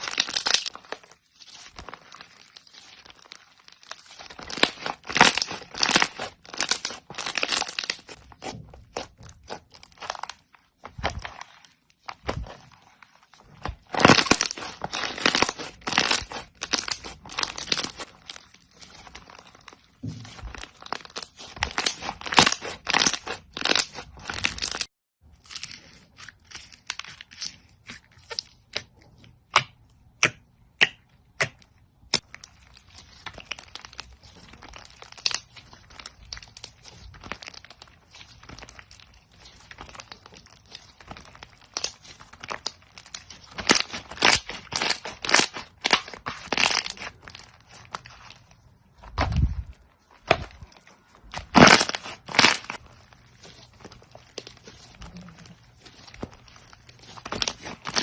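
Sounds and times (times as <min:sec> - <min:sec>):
crunchy slime crackling and popping: 0:00.0 - 0:58.0.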